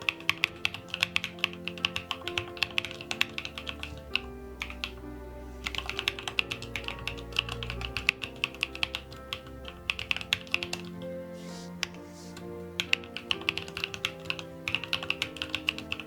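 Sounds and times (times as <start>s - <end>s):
mechanical keyboard typing: 0.0s - 5.0s, 5.6s - 11.0s, 12.8s - 16.0s
background music: 0.0s - 16.0s.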